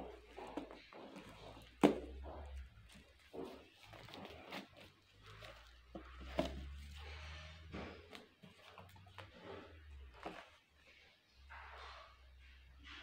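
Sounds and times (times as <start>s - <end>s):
wrapping paper rustling: 0.0s - 10.8s.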